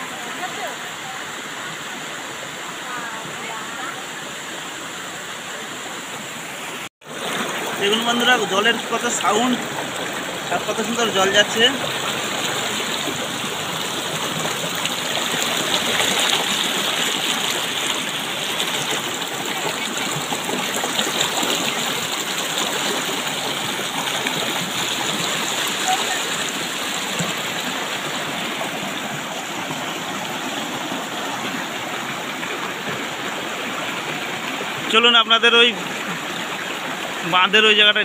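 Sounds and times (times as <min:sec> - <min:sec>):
river water rushing over rocks: 0:00.0 - 0:38.0.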